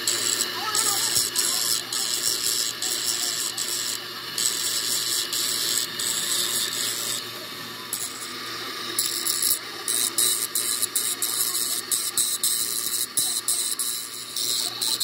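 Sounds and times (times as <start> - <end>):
grinder motor hum: 0.0 - 15.0
metal grinding on abrasive wheel: 0.0 - 15.0.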